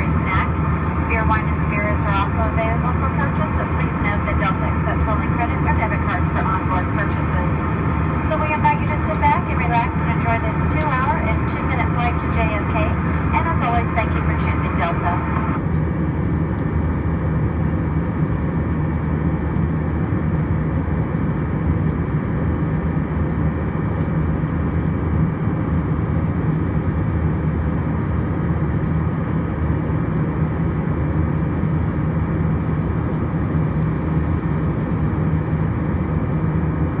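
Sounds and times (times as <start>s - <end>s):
airplane cabin engine noise: 0.0s - 37.0s.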